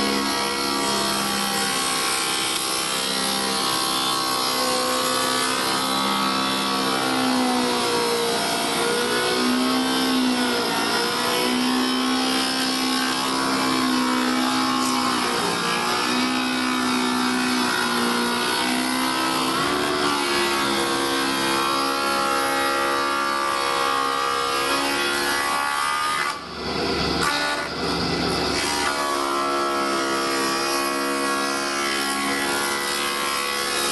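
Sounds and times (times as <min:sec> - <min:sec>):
spindle moulder cutting wood: 0:00.0 - 0:33.9.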